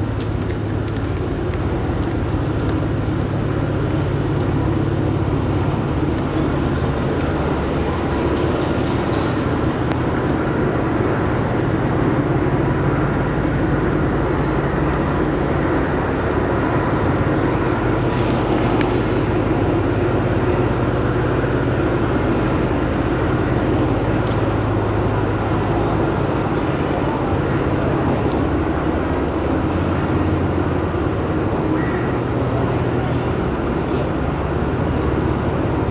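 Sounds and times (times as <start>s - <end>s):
train wheels rumbling: 0.0s - 35.9s.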